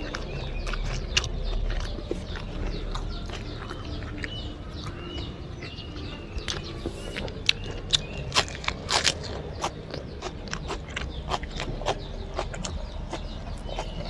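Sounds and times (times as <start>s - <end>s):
birds chirping: 0.0s - 14.0s
wet chewing and smacking: 0.0s - 14.0s.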